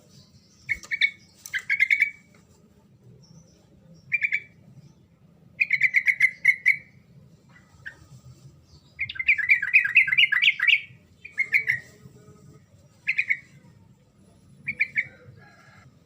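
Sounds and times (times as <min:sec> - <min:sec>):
bird singing: 0:00.0 - 0:02.3, 0:03.0 - 0:12.0, 0:12.6 - 0:16.0.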